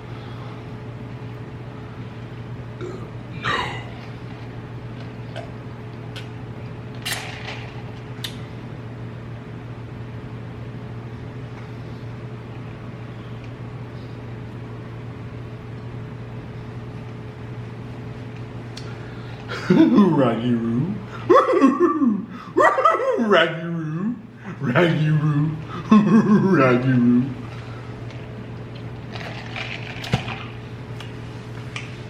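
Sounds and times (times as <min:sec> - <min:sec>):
appliance humming: 0:00.0 - 0:32.0.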